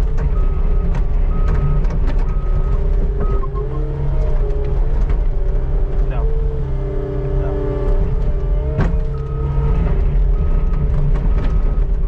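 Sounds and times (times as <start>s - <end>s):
skid steer engine under load: 0.0s - 12.0s.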